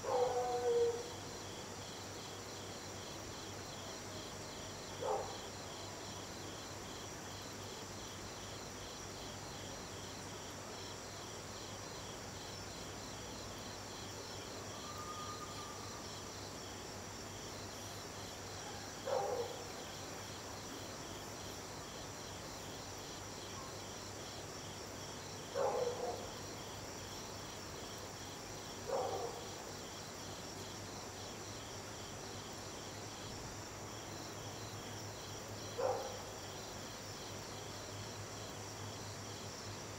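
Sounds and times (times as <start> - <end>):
night insects chirping: 0.0 - 39.9.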